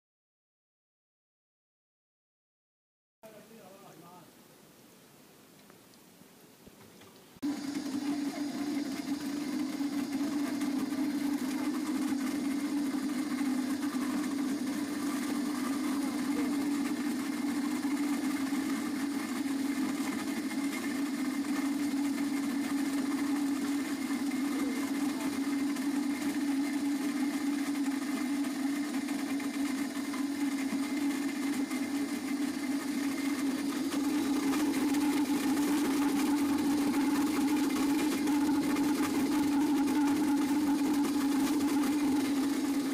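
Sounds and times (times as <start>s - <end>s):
electric fruit mill motor hum: 7.4s - 42.9s.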